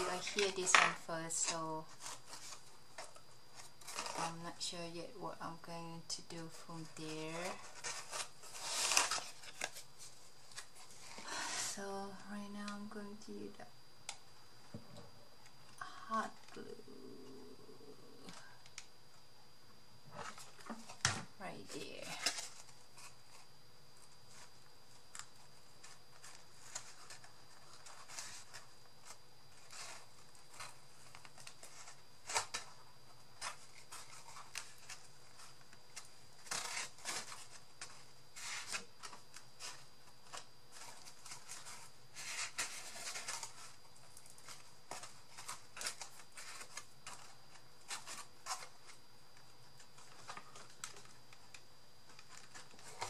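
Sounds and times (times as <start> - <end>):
paper and cardboard rustling: 0.0 - 4.8, 6.2 - 13.0, 20.1 - 53.0.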